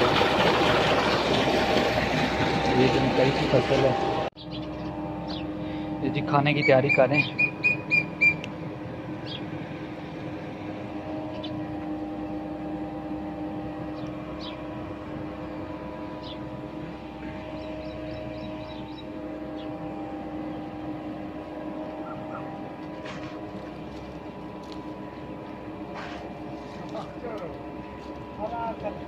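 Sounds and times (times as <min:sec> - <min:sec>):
water pump droning: 0:00.0 - 0:29.0.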